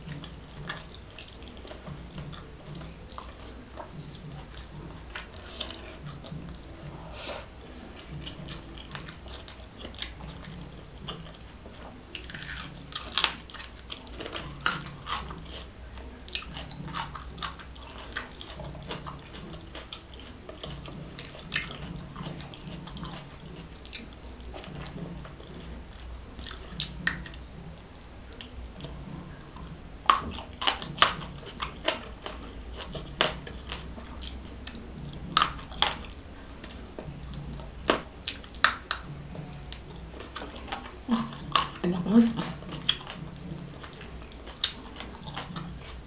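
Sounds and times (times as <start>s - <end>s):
chewing with lip smacks: 0.0s - 46.0s.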